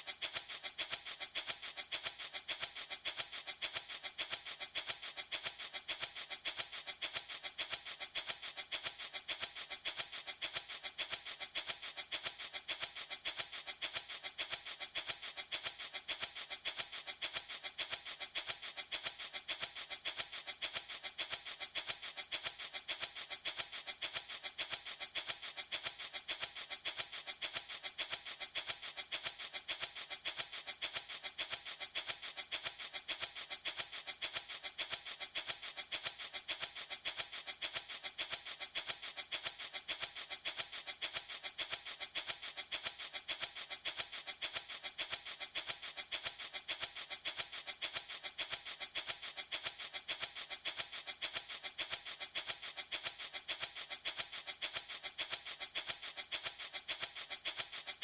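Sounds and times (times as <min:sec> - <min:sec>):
wooden rattle shaken: 0:00.0 - 0:58.0.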